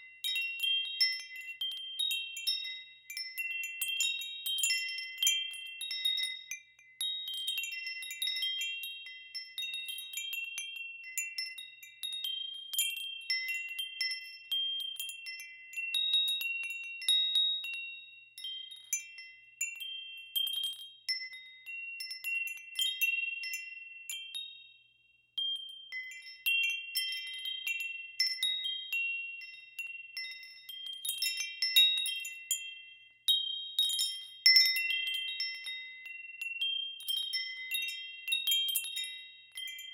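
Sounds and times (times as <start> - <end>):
wind chimes ringing: 0.0 - 24.8, 25.4 - 39.9.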